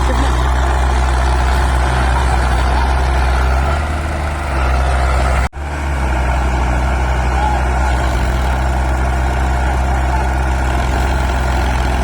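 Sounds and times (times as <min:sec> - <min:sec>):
heavy diesel engine humming: 0:00.0 - 0:12.0.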